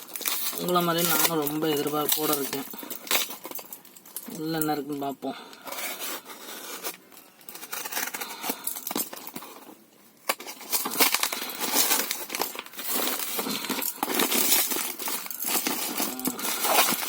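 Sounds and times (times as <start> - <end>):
packaging crinkling and tearing: 0.0 - 4.4, 5.7 - 17.0.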